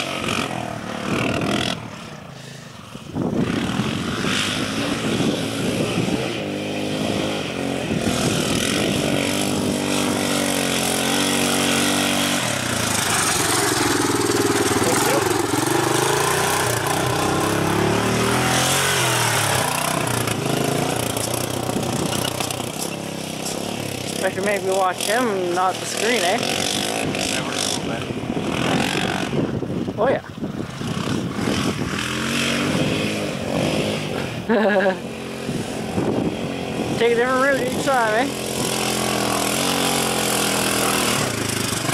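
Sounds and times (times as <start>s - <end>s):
three-wheeler engine revving uphill: 0.0s - 41.9s.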